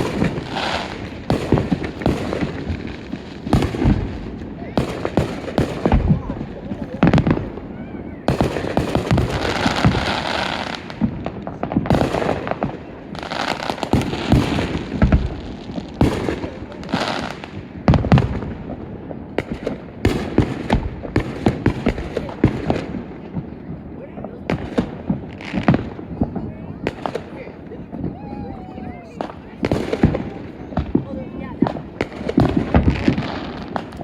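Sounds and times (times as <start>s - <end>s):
fireworks bangs and pops: 0.0s - 34.0s
fireworks crackling: 0.0s - 34.0s.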